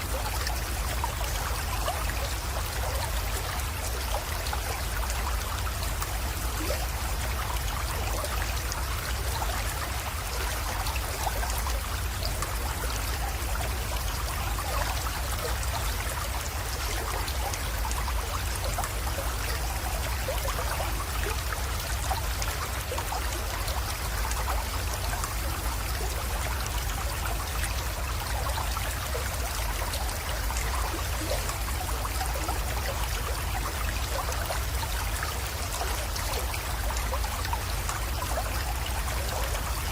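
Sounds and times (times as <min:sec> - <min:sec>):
creek water trickling: 0:00.0 - 0:39.9
small water splashes: 0:00.0 - 0:39.9.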